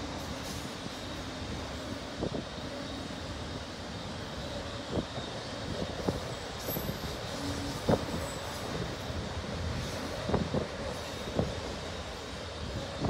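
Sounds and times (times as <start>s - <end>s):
freight cars rumbling on rails: 0.0s - 13.0s.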